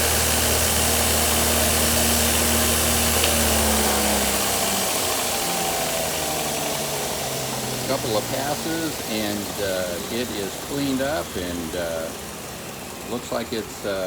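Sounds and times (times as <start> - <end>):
belt grinder humming and whirring: 0.0 - 14.0
machine winding down: 0.0 - 14.0.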